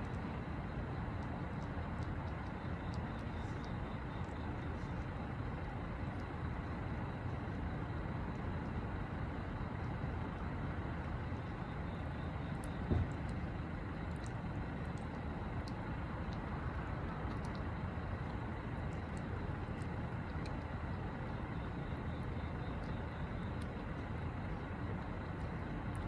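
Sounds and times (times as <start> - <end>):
cat licking and chewing food: 0.0 - 26.0
low background rumble: 0.0 - 26.0
faint small clicks: 1.1 - 7.7, 9.6 - 26.0.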